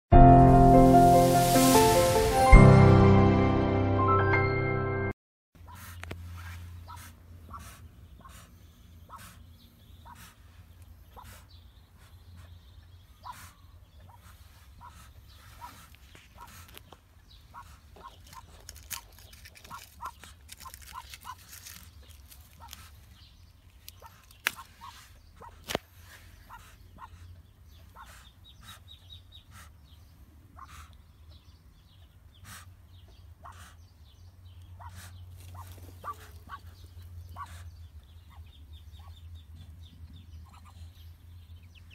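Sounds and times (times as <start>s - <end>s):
ducklings peeping softly: 5.6s - 41.9s.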